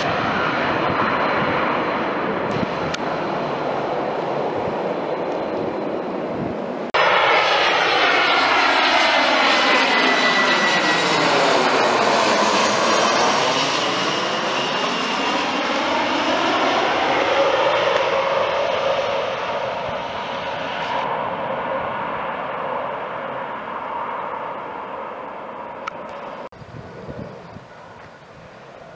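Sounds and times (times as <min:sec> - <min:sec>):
jet passing low overhead: 0:00.0 - 0:28.9.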